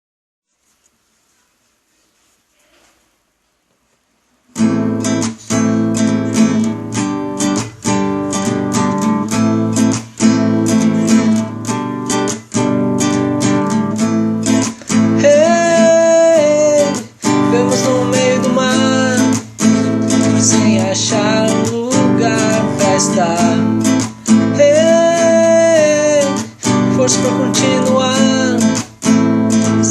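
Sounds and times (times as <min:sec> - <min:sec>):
strummed acoustic guitar: 0:04.5 - 0:29.9
sliding lead guitar melody: 0:04.6 - 0:29.9.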